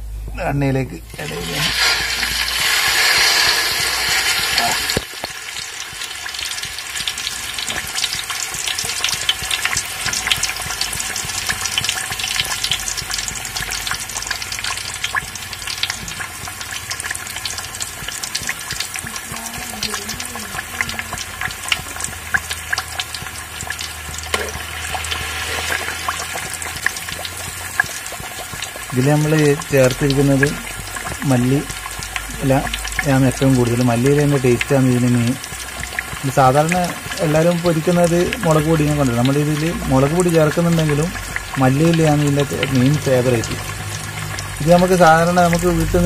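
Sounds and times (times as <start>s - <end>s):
fish sizzling in hot oil: 1.1s - 46.0s.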